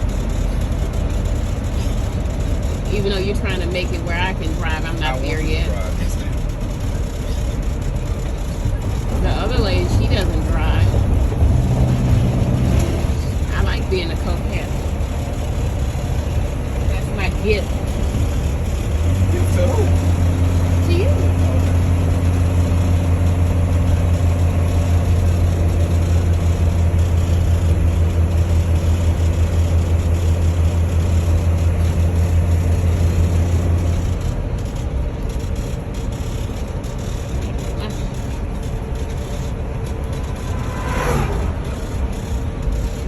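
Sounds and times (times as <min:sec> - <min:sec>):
engine drone: 0:00.0 - 0:43.0.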